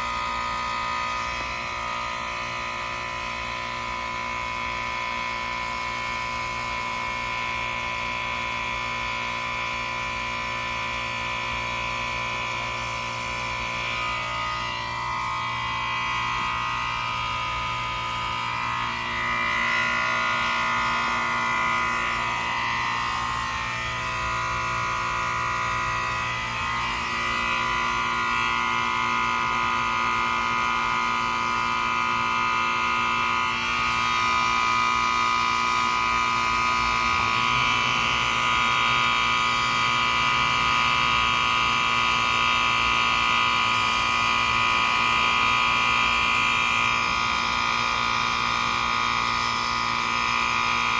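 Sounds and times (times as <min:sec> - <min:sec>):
heat pump buzzing whine: 0:00.0 - 0:50.9.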